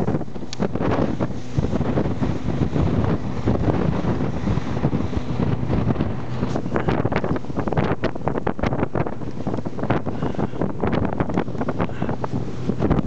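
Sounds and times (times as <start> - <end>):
boat engine droning: 0.0 - 13.0
hull slapping through waves: 0.0 - 13.0
wind buffeting microphone: 0.0 - 13.0.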